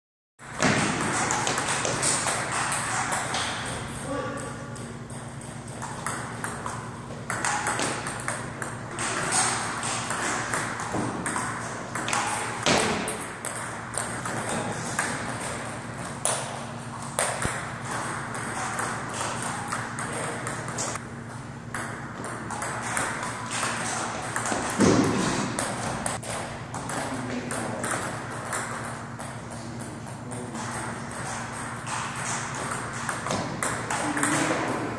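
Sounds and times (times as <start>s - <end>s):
steady low hum: 0.4s - 34.9s
table tennis ball tapping: 0.6s - 16.6s, 17.2s - 21.0s, 21.7s - 34.9s.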